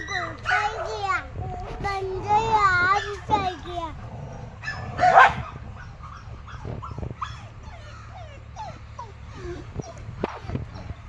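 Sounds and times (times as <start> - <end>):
dogs yipping and whimpering: 0.0 - 11.0.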